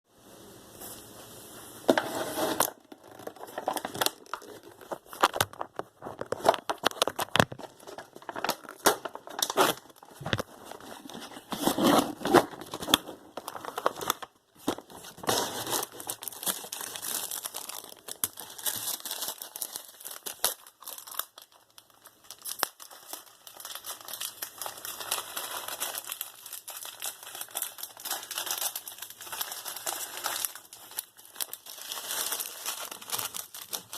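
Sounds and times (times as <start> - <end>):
plastic packaging crinkling and tearing: 2.2 - 33.9.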